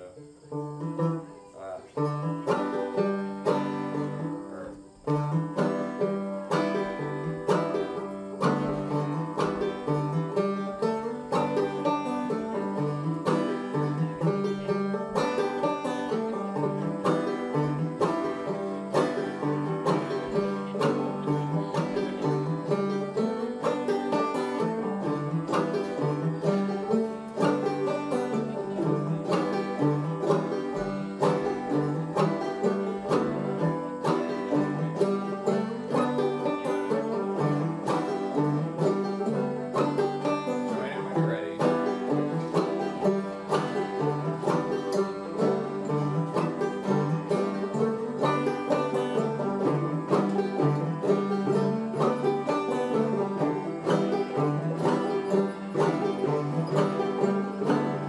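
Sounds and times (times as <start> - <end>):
banjo playing rapid plucked notes: 0.0 - 58.0.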